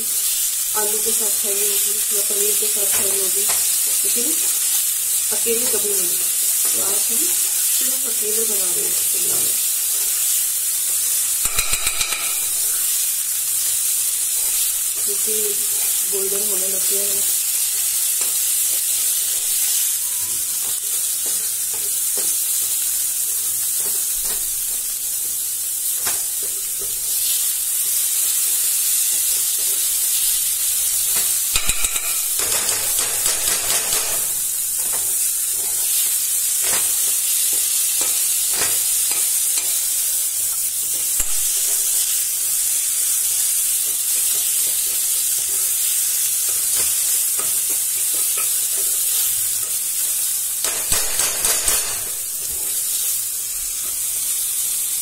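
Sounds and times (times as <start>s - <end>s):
paste sizzling in hot oil: 0.0s - 55.0s.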